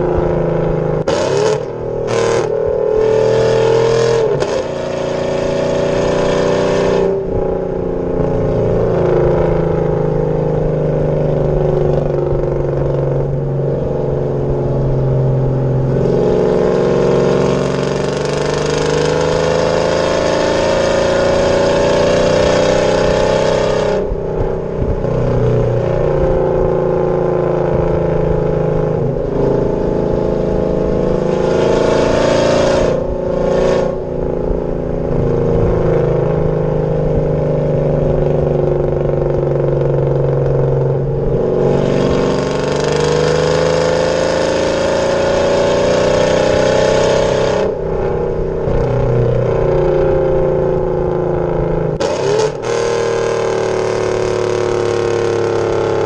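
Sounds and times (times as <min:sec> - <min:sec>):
truck exhaust accelerating: 0:00.0 - 0:56.0.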